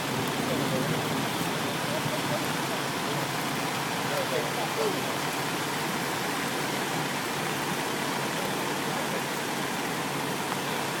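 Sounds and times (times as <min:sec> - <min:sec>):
heavy rain on a flooded street: 0:00.0 - 0:11.0.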